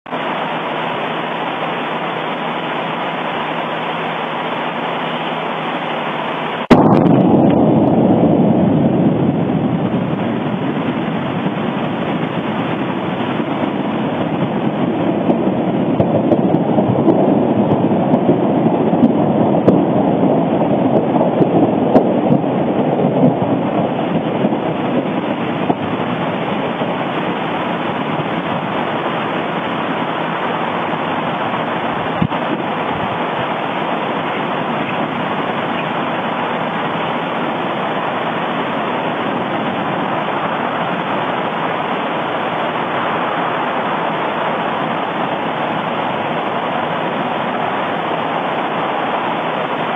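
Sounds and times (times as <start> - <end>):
deep volcanic rumble with cracks: 0.1 - 49.9
volcanic blast: 0.1 - 49.9
volcano steady noise: 0.1 - 49.9.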